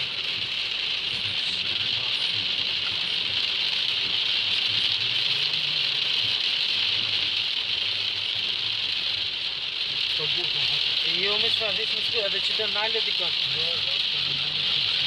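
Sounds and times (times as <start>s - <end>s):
steady hiss of falling rain: 0.0s - 15.0s.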